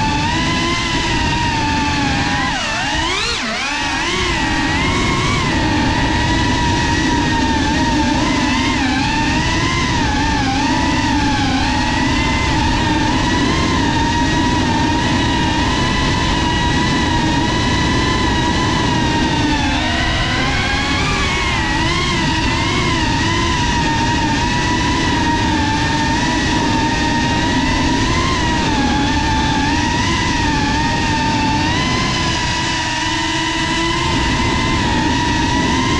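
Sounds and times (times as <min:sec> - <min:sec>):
drone motors whining: 0:00.0 - 0:35.9
steady rushing noise: 0:00.0 - 0:35.9.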